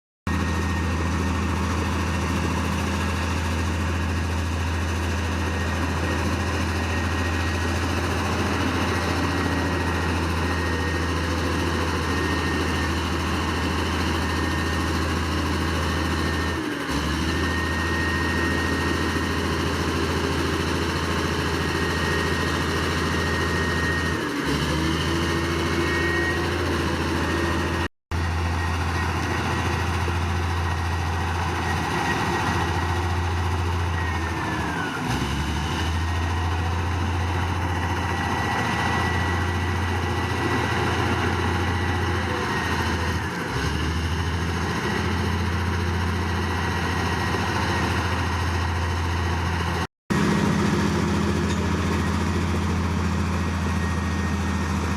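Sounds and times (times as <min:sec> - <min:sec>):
heavy diesel engine running: 0:00.3 - 0:54.9.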